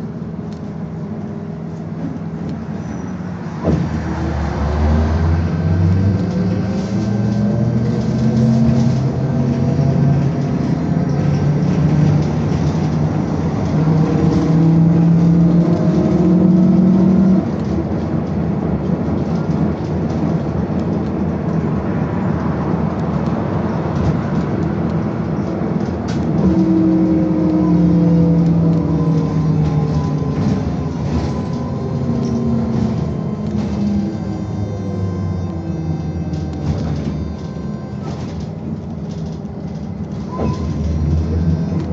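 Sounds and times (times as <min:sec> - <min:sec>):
road and running noise: 0:00.0 - 0:41.9.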